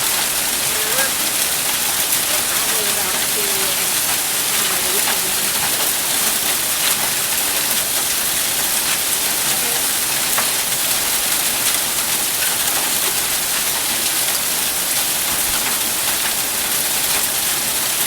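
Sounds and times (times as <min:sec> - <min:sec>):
hail pelting: 0:00.0 - 0:18.0
heavy rain downpour: 0:00.0 - 0:18.0.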